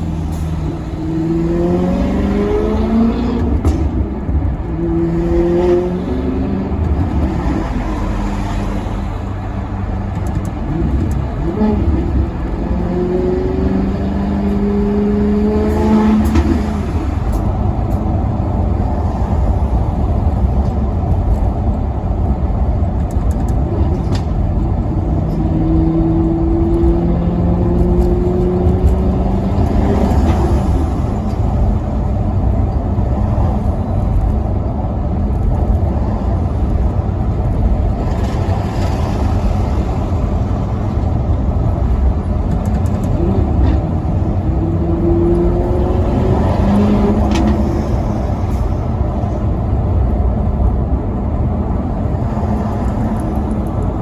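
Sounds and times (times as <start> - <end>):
car engine accelerating: 0.0 - 54.0
road noise rumble: 0.0 - 54.0.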